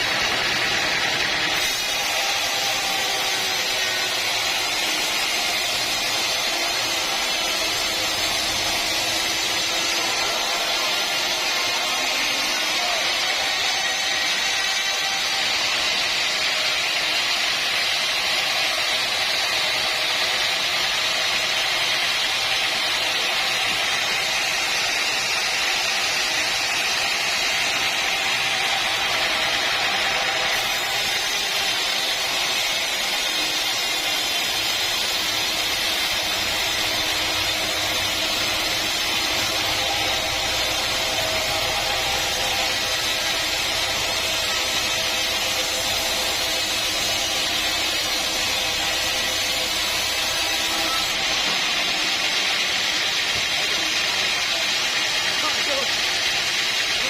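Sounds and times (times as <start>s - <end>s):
sawmill machinery whirring: 0.0s - 57.0s.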